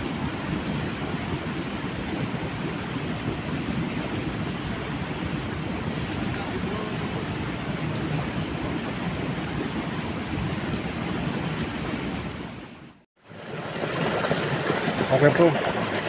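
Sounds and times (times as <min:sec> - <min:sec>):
water rushing along a ditch: 0:00.0 - 0:16.0.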